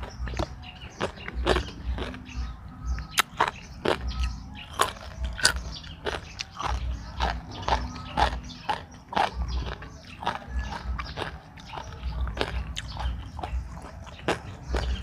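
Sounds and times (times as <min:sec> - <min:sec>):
person crunching food: 0:00.0 - 0:15.0.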